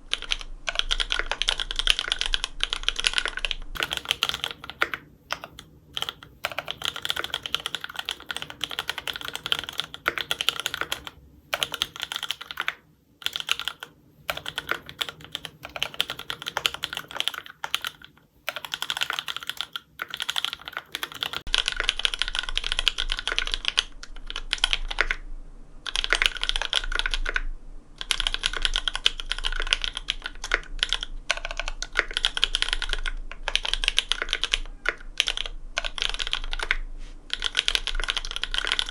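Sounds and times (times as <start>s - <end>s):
fast typing on mechanical keyboard: 0.0s - 25.2s, 25.9s - 27.4s, 28.0s - 38.9s.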